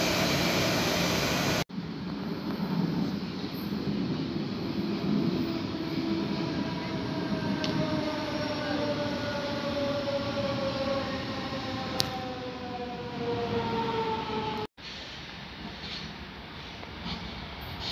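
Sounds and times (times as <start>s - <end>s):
train rumbling on track: 0.0s - 17.9s.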